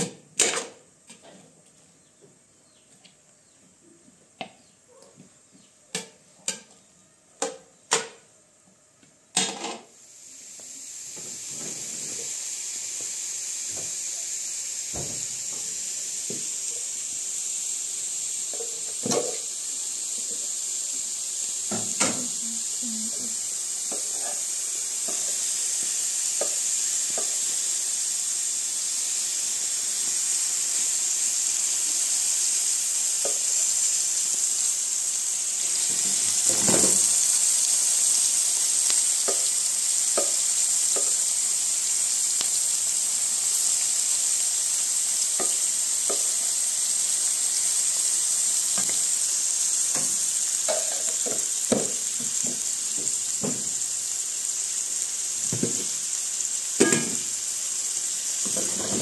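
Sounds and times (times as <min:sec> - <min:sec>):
onions sizzling in pan: 0:00.0 - 0:59.0.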